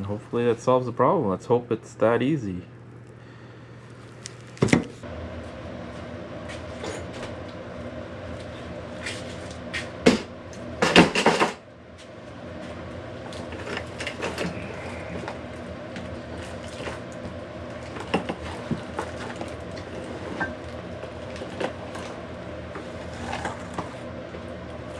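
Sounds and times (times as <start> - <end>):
steady hum with tones: 0.0 - 24.9.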